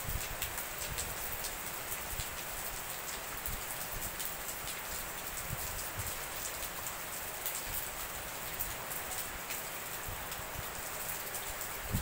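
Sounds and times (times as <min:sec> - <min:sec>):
heavy rain on wet paving: 0:00.0 - 0:12.0.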